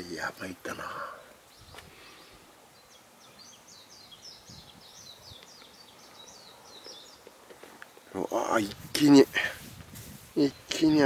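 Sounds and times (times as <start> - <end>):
small bird singing: 0.0 - 9.3, 10.4 - 11.0
quiet background hiss: 0.0 - 11.0.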